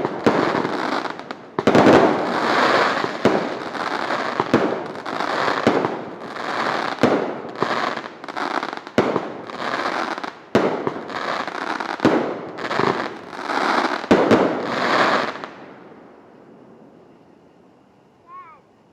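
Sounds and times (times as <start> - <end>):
firework bangs: 0.0 - 17.1
firework crackling hiss: 0.0 - 18.9.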